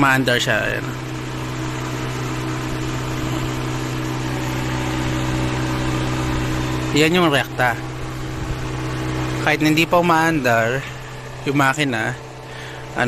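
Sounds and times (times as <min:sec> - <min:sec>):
electric radiator fan humming: 0:00.0 - 0:13.0.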